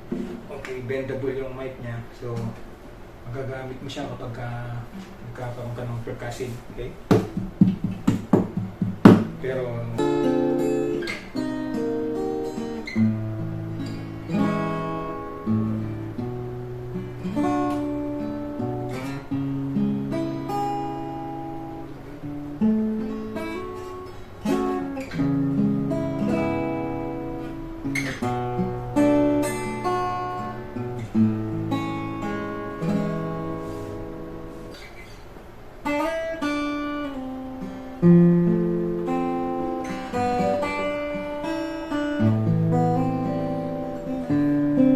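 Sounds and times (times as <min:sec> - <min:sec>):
acoustic guitar chords strummed: 0:06.9 - 0:44.9.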